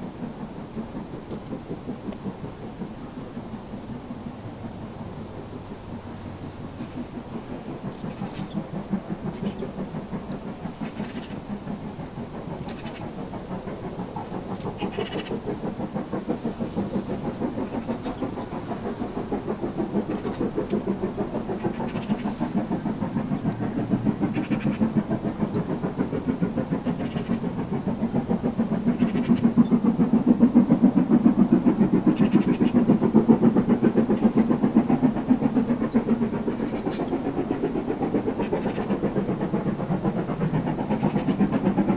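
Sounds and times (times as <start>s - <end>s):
steam locomotive exhaust beats: 0.0s - 41.9s.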